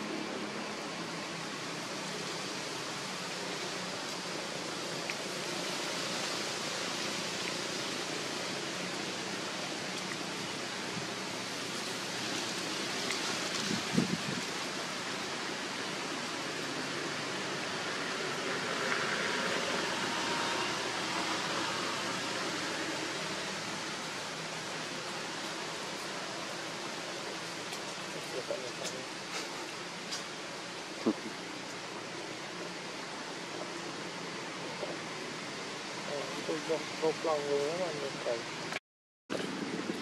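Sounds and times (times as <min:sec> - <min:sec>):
outdoor background hiss: 0:00.0 - 0:40.0.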